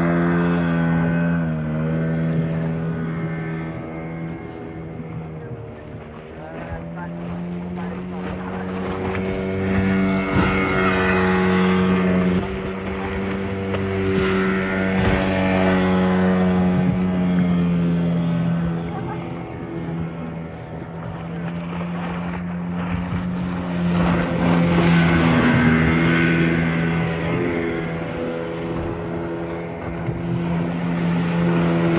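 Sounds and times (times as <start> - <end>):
engine running steadily: 0.0 - 31.9.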